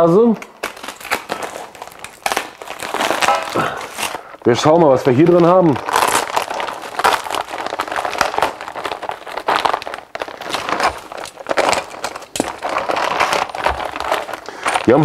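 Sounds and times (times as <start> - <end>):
plastic bags and bubble wrap crinkling: 0.0 - 15.0.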